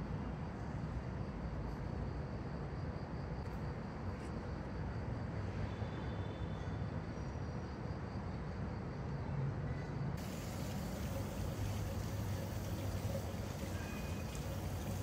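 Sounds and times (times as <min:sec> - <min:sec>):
urban background rumble: 0:00.0 - 0:15.0.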